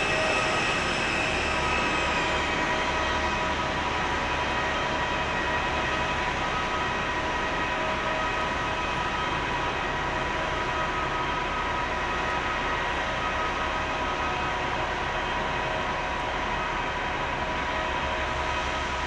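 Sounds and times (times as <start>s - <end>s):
jet turbine whine: 0.0s - 19.0s.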